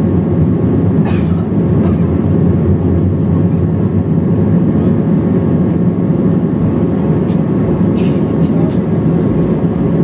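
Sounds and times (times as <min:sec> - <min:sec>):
engine and airflow rumble in cabin: 0:00.0 - 0:10.0.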